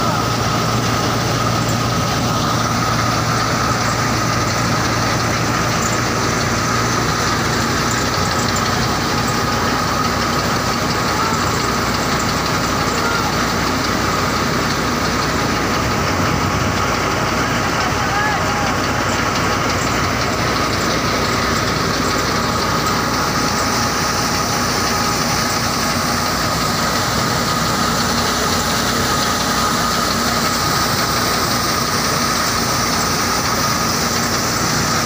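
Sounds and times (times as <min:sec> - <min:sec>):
tractor diesel engine drone: 0:00.0 - 0:35.0.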